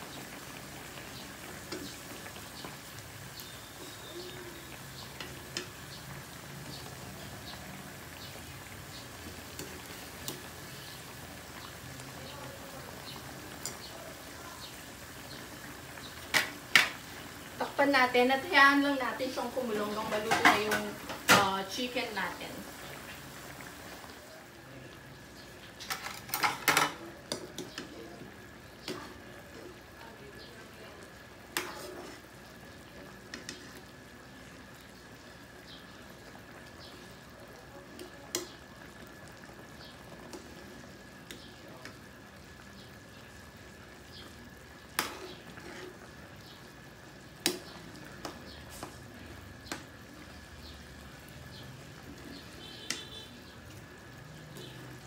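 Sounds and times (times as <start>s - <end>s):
chicken wings sizzling in a pan: 0.0s - 55.0s
sauce simmering: 0.0s - 55.0s.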